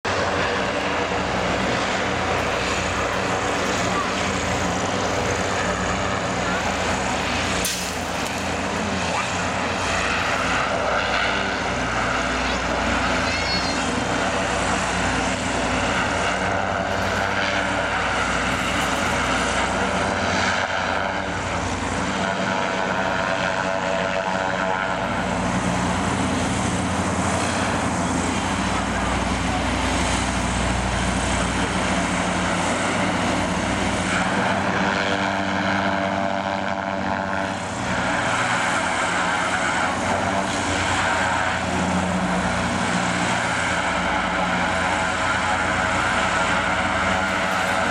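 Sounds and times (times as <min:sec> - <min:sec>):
airship engines and propellers running: 0:00.0 - 0:47.9.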